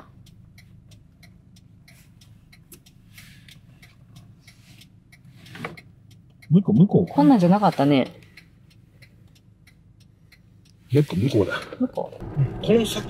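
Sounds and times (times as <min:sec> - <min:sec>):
turn-signal indicator clicking: 0:00.0 - 0:10.8
faint engine hum: 0:00.0 - 0:13.0.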